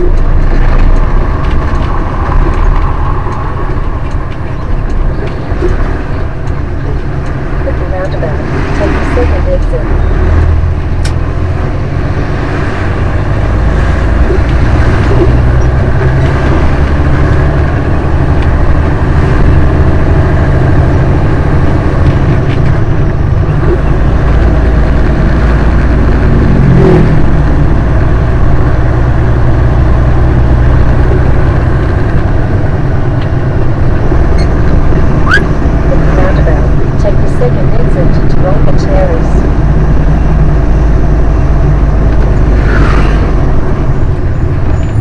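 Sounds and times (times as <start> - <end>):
road noise: 0.0 - 45.0
truck diesel engine running: 0.0 - 45.0.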